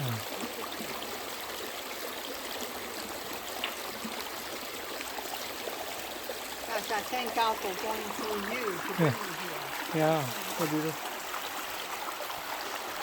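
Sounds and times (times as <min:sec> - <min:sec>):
creek water running over rocks: 0:00.0 - 0:13.0.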